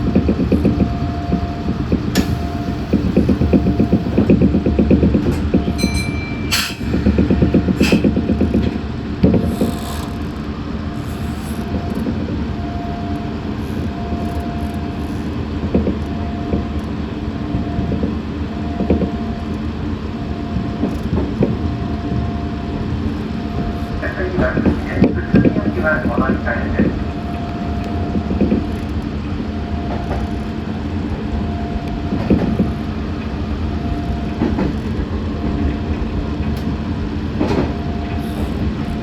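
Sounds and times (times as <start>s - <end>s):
electric train running: 0.0s - 39.0s.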